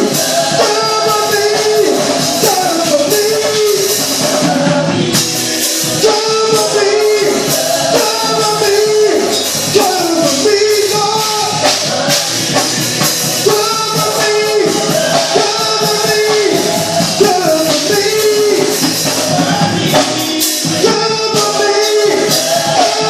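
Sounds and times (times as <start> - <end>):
gospel singing: 0.0 - 23.0
instrumental accompaniment with beat: 0.0 - 23.0.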